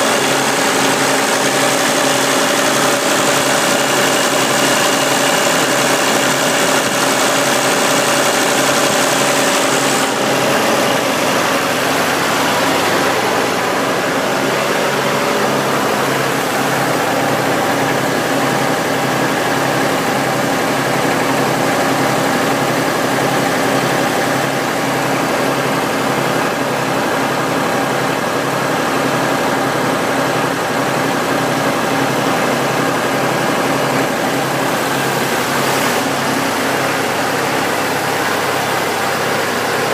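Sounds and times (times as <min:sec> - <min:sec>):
tractor engine idling: 0:00.0 - 0:27.8, 0:30.7 - 0:39.9.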